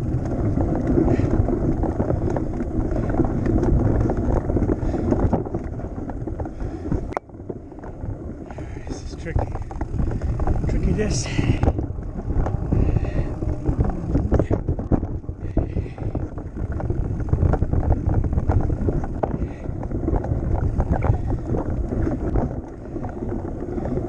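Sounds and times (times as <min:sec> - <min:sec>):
bike rattling and knocking: 0:00.0 - 0:24.0
bike tyre noise: 0:00.0 - 0:24.0
wind rumble on microphone: 0:00.0 - 0:24.0.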